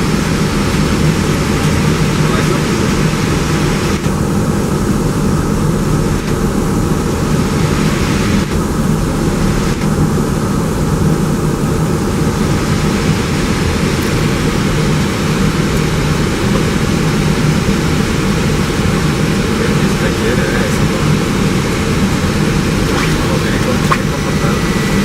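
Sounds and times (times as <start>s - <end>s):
airliner cockpit roar: 0.0s - 25.0s.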